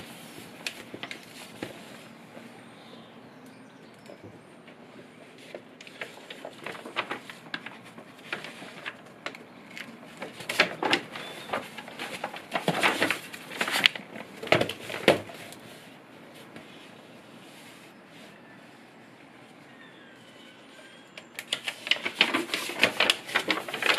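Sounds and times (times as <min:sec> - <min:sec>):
paper rustling and crackling: 0:00.0 - 0:02.8, 0:04.1 - 0:18.6, 0:20.6 - 0:23.9.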